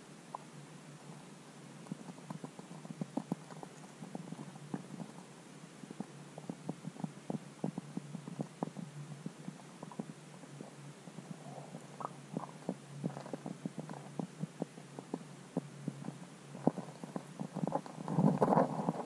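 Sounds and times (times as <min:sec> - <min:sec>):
low underwater hum: 0:00.0 - 0:19.0.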